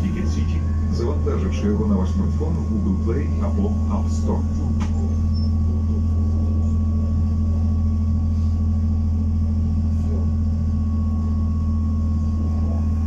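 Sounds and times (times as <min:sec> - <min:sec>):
deep electric drone: 0:00.0 - 0:13.0
high whine: 0:00.0 - 0:13.0
rumble of ride: 0:00.0 - 0:13.0.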